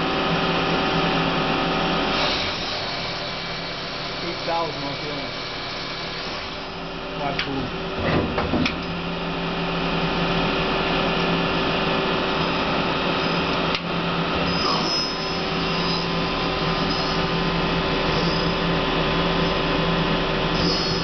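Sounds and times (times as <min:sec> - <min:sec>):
machine hum and whir: 0:00.0 - 0:21.0.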